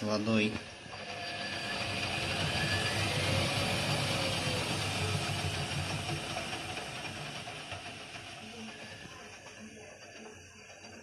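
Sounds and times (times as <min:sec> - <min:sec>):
washing machine drum spinning: 0:00.0 - 0:11.0.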